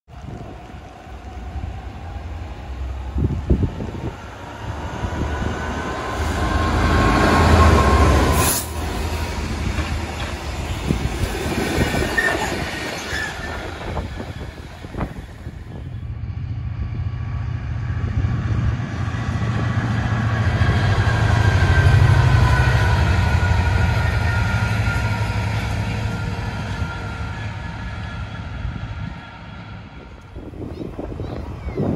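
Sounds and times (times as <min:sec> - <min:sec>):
diesel locomotive passing: 0:00.1 - 0:31.9
low steady locomotive engine: 0:00.1 - 0:31.9.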